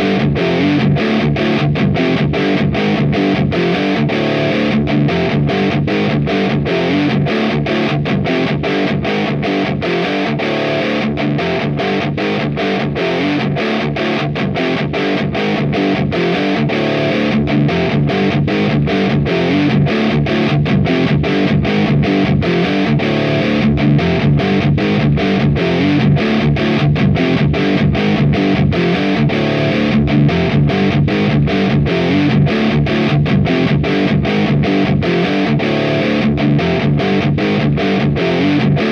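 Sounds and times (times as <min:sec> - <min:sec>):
distorted electric guitar riff: 0:00.0 - 0:38.9.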